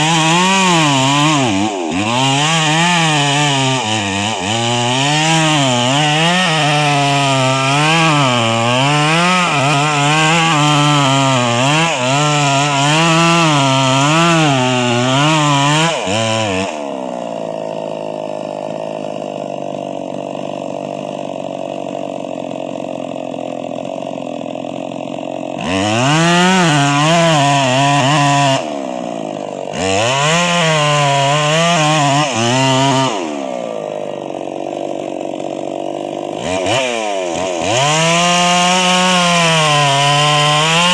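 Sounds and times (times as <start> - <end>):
chainsaw cutting: 0.0 - 40.9.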